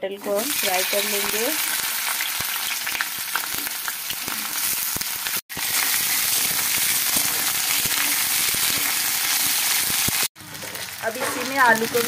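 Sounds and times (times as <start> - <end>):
vegetables sizzling in hot oil: 0.1 - 12.0.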